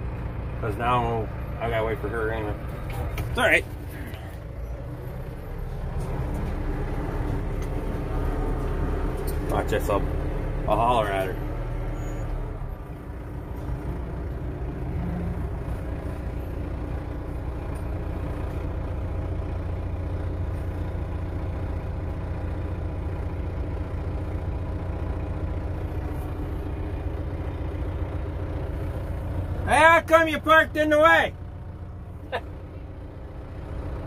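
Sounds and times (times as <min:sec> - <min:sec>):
vehicle engine droning: 0:00.0 - 0:34.0.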